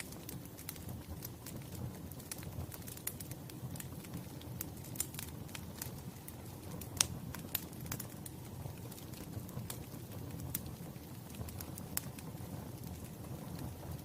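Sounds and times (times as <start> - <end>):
burning logs rumbling: 0.0 - 14.0
fire crackling and popping: 0.0 - 14.0.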